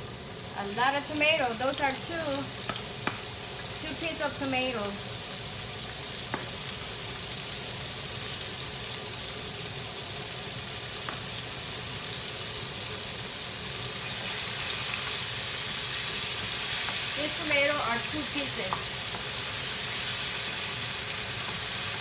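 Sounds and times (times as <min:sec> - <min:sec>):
tomatoes sizzling in hot oil: 0:00.0 - 0:22.0.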